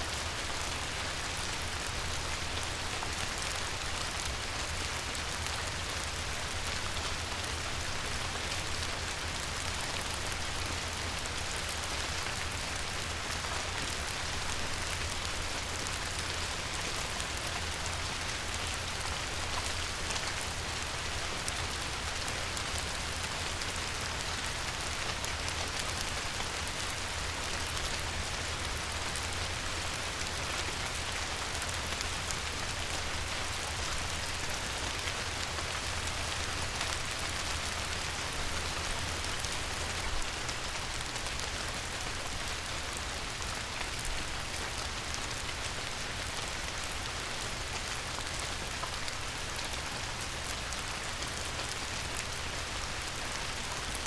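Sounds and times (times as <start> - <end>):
light rain on river: 0.0 - 54.0.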